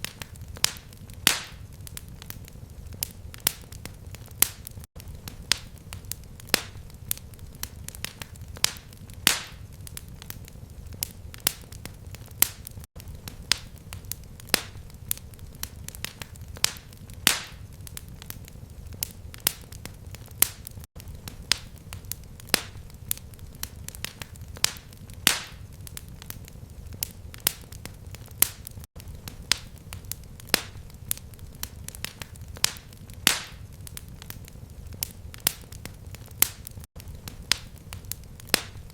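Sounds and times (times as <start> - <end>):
fire crackling and popping: 0.0 - 38.9
low rumble of flame: 0.0 - 38.9.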